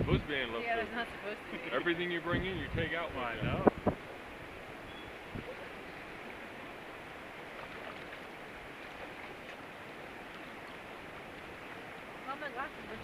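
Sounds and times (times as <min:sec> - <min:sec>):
whitewater river rushing: 0:00.0 - 0:02.3, 0:03.9 - 0:13.0.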